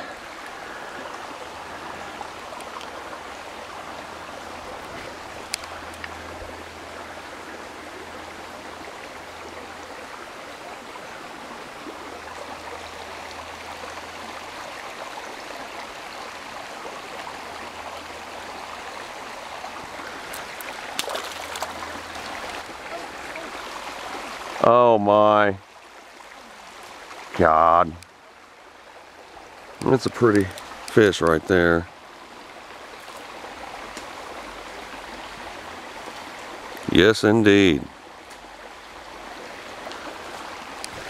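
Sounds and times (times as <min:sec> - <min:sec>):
creek water running: 0:00.0 - 0:41.0.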